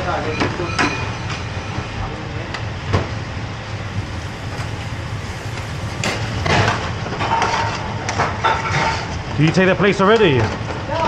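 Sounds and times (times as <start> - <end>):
gas burners and ventilation roar: 0.0 - 11.0.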